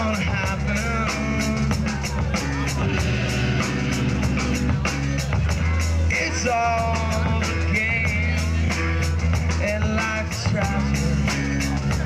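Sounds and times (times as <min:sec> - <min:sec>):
drum kit beat: 0:00.0 - 0:12.0
live rock band playing: 0:00.0 - 0:12.0
sustained bass: 0:00.0 - 0:12.0.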